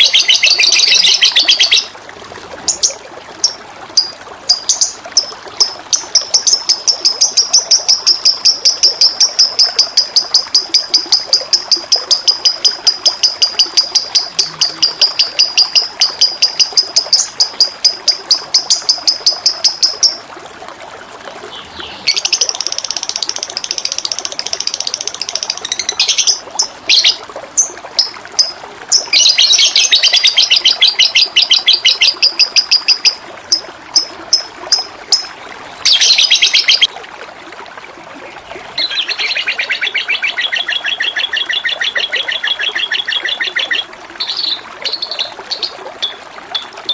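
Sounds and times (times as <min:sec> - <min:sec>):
songbird singing: 0:00.0 - 0:01.9, 0:02.7 - 0:20.2, 0:21.5 - 0:36.9, 0:38.8 - 0:46.2
trickle of running water: 0:00.0 - 0:46.9.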